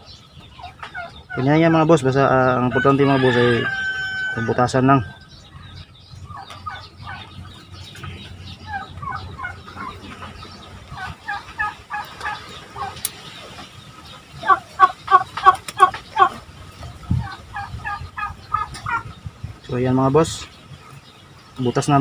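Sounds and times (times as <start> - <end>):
turkeys calling: 0.0 - 22.0.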